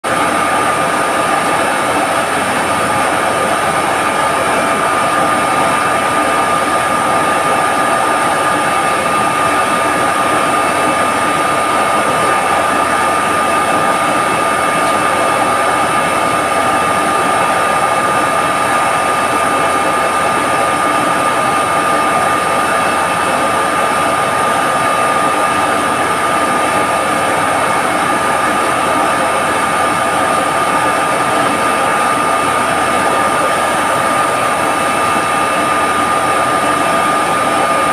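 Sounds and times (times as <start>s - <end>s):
machinery drone of pumps: 0.0s - 37.9s.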